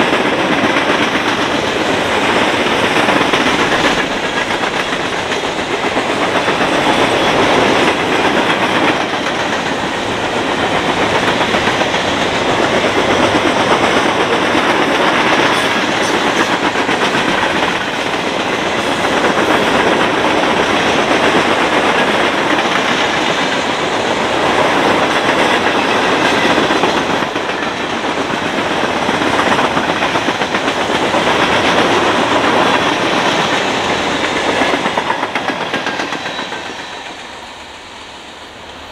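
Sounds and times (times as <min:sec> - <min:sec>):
steel wheels rolling on rail: 0:00.0 - 0:38.9.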